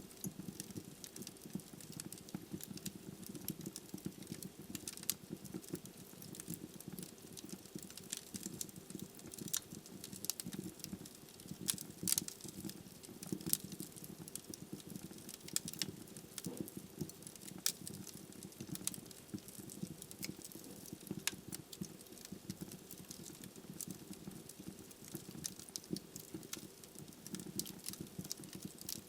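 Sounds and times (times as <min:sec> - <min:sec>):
logs crackling and popping: 0:00.1 - 0:29.0.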